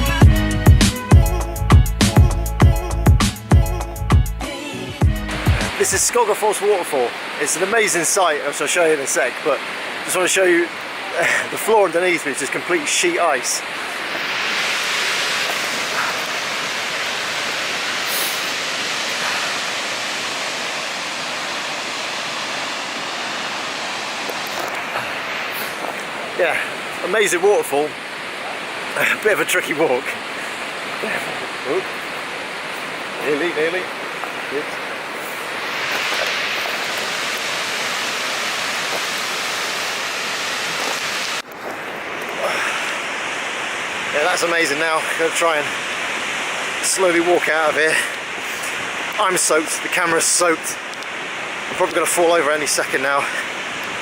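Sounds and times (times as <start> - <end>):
waterfall rushing: 4.5 - 54.0.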